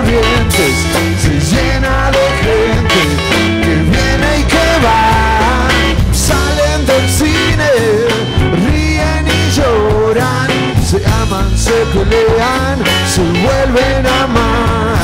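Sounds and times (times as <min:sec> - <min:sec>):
bass line: 0:00.0 - 0:15.0
bending lead guitar line: 0:00.0 - 0:15.0
drum kit hi-hat and snare: 0:00.0 - 0:15.0
rock band playing: 0:00.0 - 0:15.0
strummed guitars: 0:00.0 - 0:15.0.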